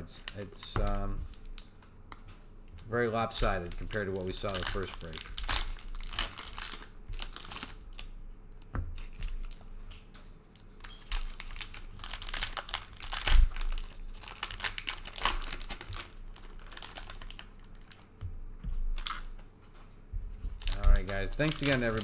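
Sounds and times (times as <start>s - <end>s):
card pack wrappers crinkling: 0.0s - 1.9s, 2.8s - 9.6s, 10.6s - 18.2s, 18.9s - 19.3s, 20.6s - 22.0s.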